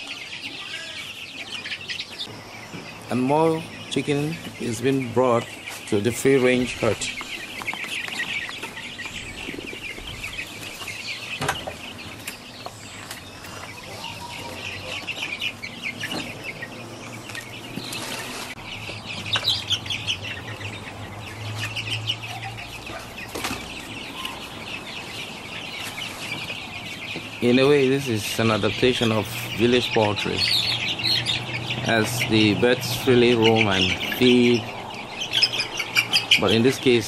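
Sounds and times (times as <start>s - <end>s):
chicks clucking and cheeping: 0.0s - 37.0s.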